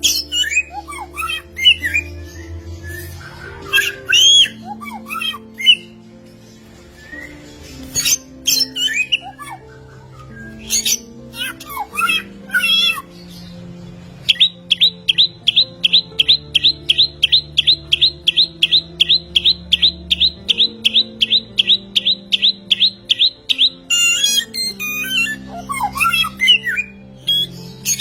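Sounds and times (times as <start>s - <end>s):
songbird sharp high calls: 0.0s - 6.0s, 6.9s - 28.0s
music with sustained notes: 0.0s - 28.0s
songbird warbling: 0.0s - 28.0s.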